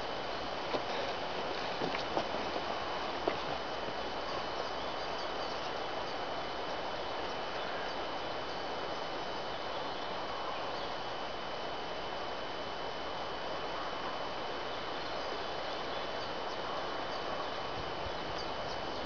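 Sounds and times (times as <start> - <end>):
faint high-pitched whine: 0.0 - 19.0
outdoor background hiss: 0.0 - 19.0.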